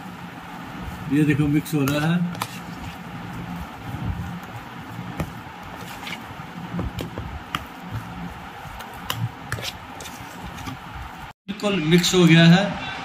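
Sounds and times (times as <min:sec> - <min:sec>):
batter squelching: 0:00.0 - 0:11.3.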